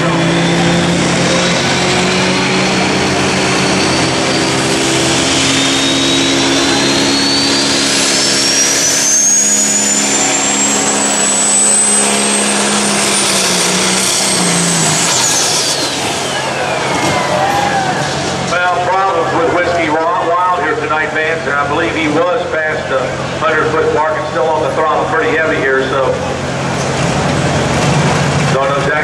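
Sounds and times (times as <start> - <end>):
diesel engine running hard: 0.0 - 29.0
high turbo whine: 0.0 - 29.0.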